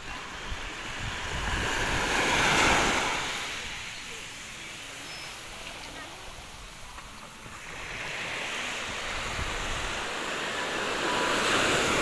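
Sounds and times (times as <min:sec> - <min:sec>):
small waves breaking on sand: 0:00.0 - 0:12.0.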